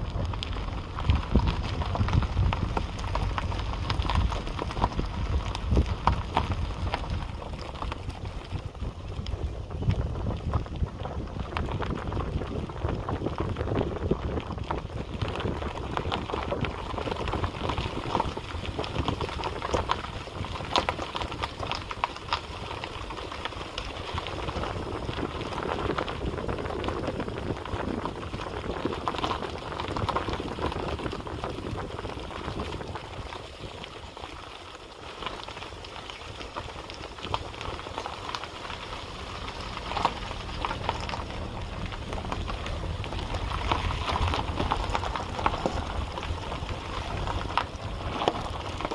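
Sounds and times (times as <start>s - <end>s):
steady crackling hiss: 0.0s - 48.9s
wind rumbling on microphone: 0.0s - 48.9s.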